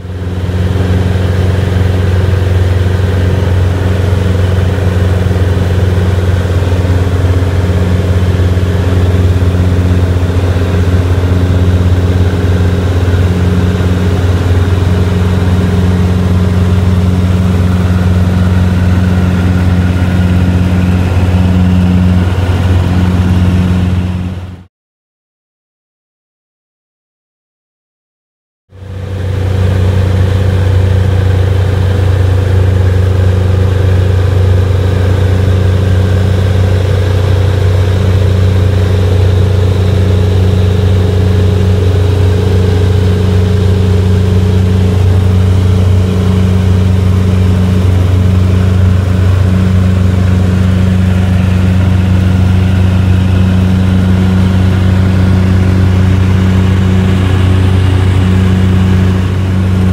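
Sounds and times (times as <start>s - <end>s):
light aircraft engine droning: 0.0s - 24.7s, 28.8s - 59.9s.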